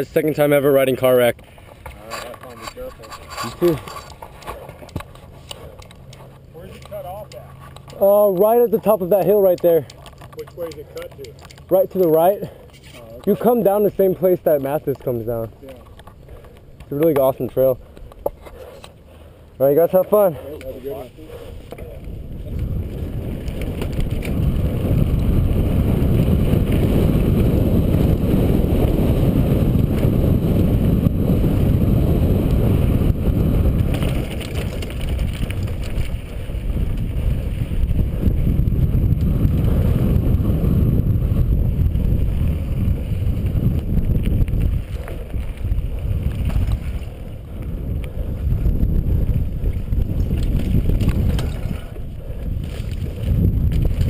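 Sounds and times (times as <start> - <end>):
bike tyres on dry dirt: 0.0 - 54.0
wind buffeting microphone: 0.0 - 54.0.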